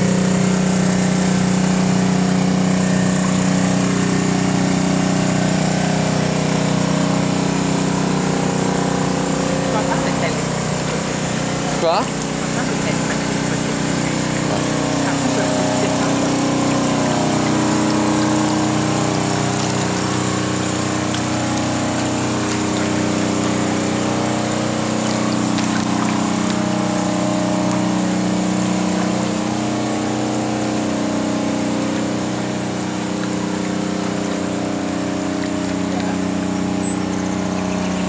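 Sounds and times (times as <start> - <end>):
pump motor droning: 0.0 - 38.0.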